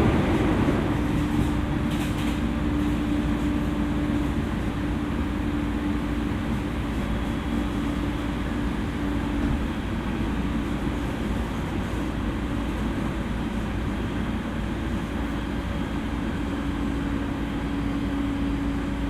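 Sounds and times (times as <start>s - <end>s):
train rolling noise with hum: 0.0s - 19.0s.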